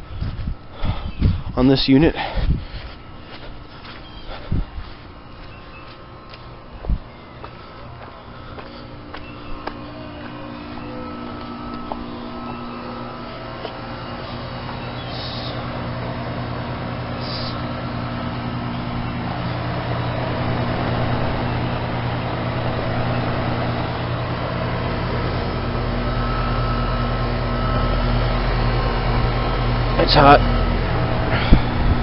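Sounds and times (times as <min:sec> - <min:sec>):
heat pump compressor hum: 0:00.0 - 0:32.0
rushing fan noise: 0:00.0 - 0:32.0.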